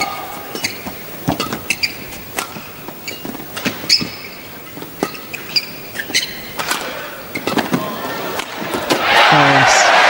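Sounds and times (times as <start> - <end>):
shoes squeaking on court: 0.0 - 8.2.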